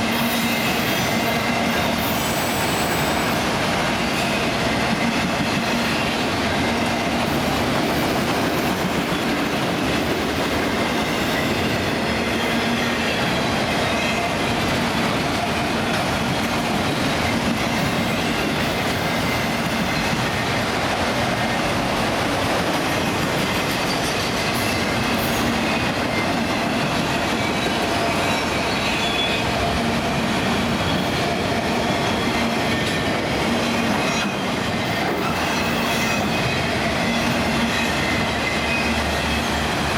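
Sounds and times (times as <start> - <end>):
freight cars rolling on rails: 0.0 - 39.9.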